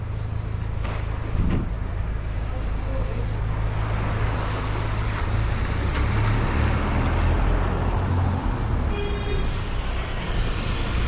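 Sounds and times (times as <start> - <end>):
cars passing: 0.0 - 11.0.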